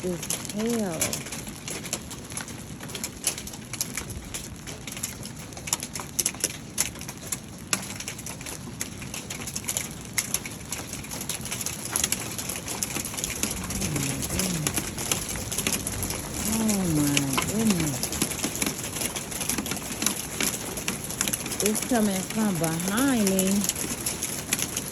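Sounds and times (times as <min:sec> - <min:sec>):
hailstones hitting a metal roof: 0:00.0 - 0:24.9.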